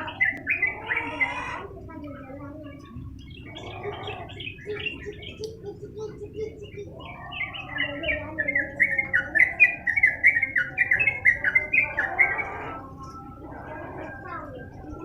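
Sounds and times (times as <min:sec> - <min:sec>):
bird chattering song: 0:00.0 - 0:15.0.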